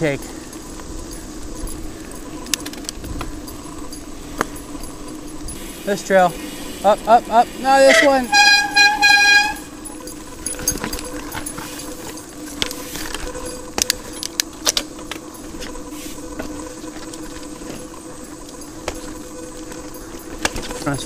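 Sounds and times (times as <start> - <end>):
bike chain and frame rattling: 0.0 - 21.0
steady hum: 0.0 - 21.0.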